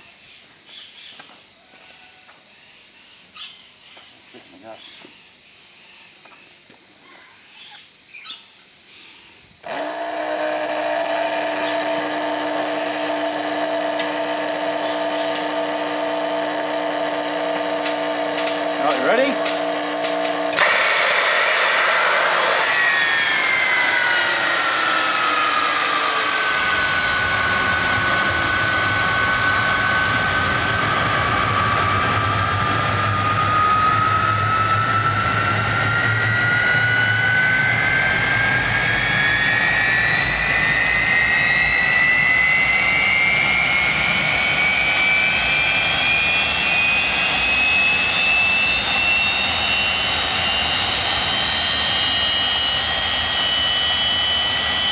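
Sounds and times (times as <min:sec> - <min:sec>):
jet engine whine: 0:00.0 - 0:07.0, 0:07.6 - 0:54.9.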